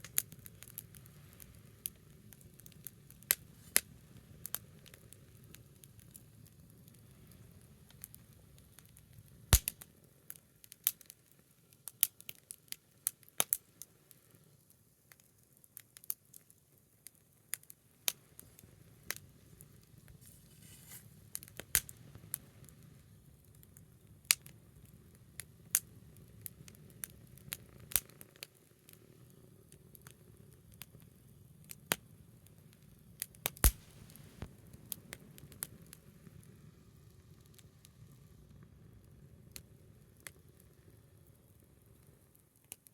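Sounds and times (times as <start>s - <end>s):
bonfire crackling and popping: 0.0s - 42.9s
faint low hiss: 0.0s - 42.9s.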